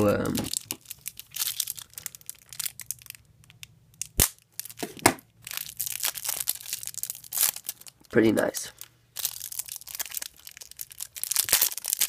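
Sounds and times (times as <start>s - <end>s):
packaging torn and crinkled: 0.0s - 4.8s, 5.4s - 8.1s, 8.8s - 12.0s.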